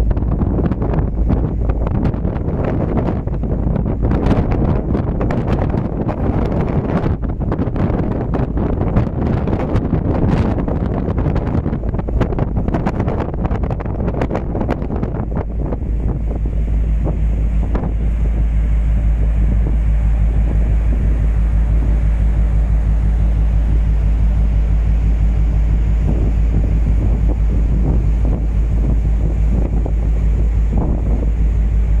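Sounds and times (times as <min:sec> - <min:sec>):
steady low rumble: 0:00.0 - 0:32.0
wind buffeting microphone: 0:00.0 - 0:32.0.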